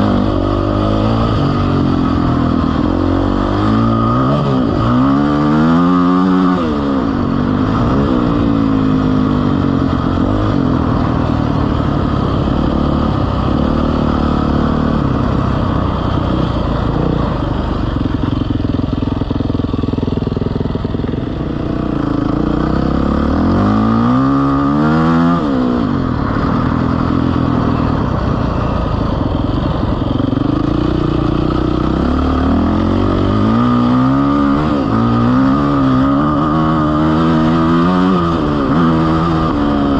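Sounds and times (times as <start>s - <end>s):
vehicle engine revving: 0.0s - 21.0s, 21.8s - 39.9s.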